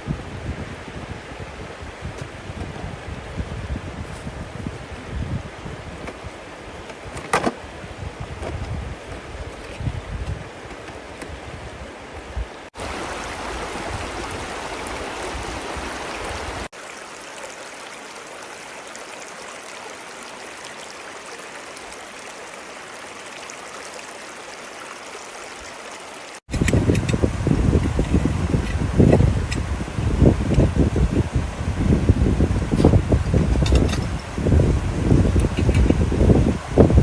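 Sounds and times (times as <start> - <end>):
river water running: 0.0 - 37.0.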